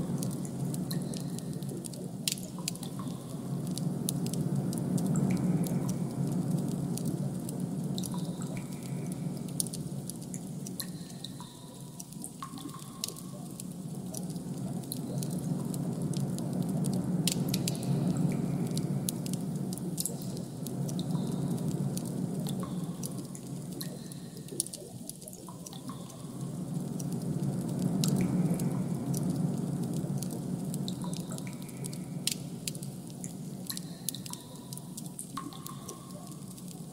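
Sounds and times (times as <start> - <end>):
low droning hum: 0.0 - 36.9
sharp drip-like clicks: 0.0 - 36.9.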